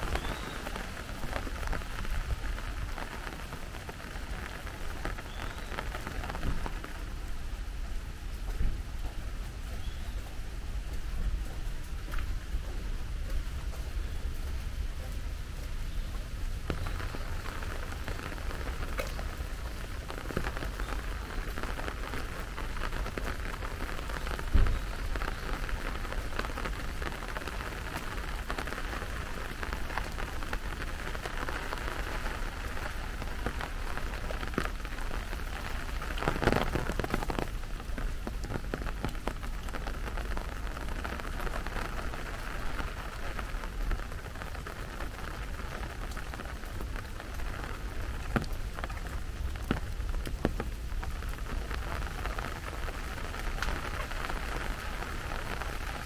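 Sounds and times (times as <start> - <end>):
brief rush of rain: 0.0 - 10.6, 15.8 - 56.0
raindrops ticking: 0.0 - 56.0
steady rain falling: 0.0 - 56.0.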